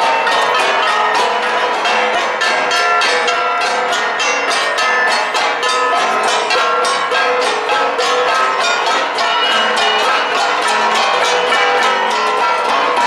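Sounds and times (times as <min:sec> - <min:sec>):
flat gongs struck in rhythm: 0:00.0 - 0:13.0.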